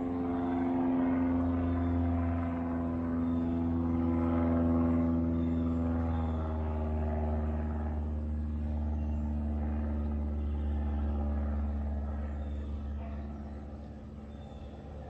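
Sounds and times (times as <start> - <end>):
propeller airplane flying past: 0.0 - 15.0.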